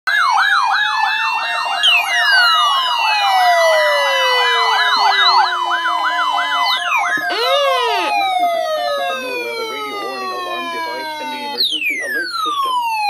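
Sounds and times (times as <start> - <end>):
fast warbling alarm tone: 0.1 - 13.0
long falling alarm glide: 0.1 - 13.0
steady alarm tones: 0.1 - 13.0.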